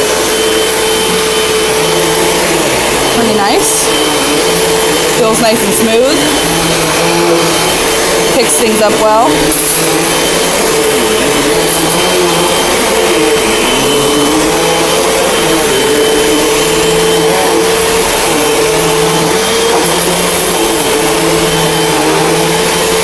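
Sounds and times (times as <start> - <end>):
vacuum cleaner on carpet: 0.0 - 23.0.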